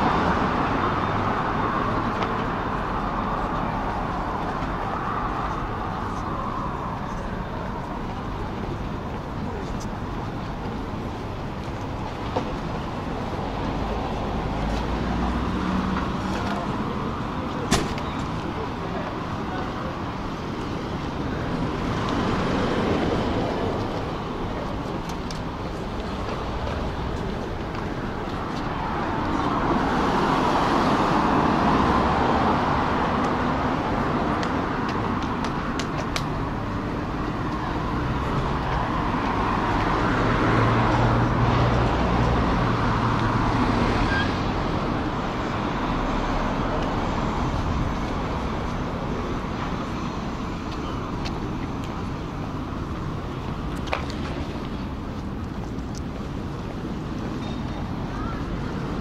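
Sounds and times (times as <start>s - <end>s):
cars passing on road: 0.0s - 59.0s.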